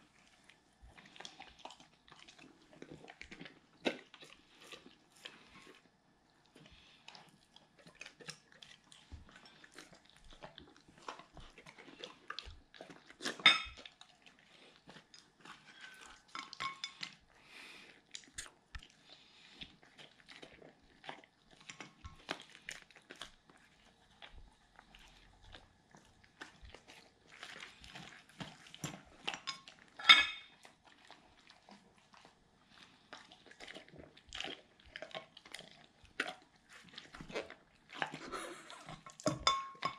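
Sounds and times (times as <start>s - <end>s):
dog licking and chewing: 0.0s - 39.9s.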